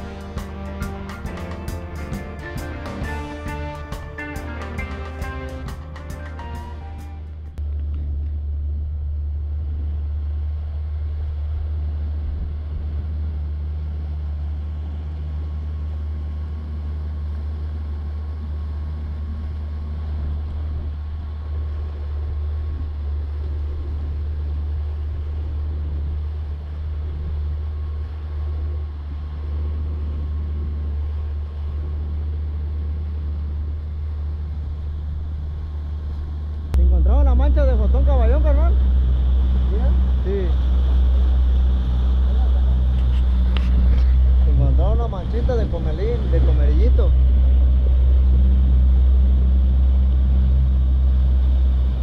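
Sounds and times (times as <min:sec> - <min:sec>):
boat motor droning: 0:00.0 - 0:52.0.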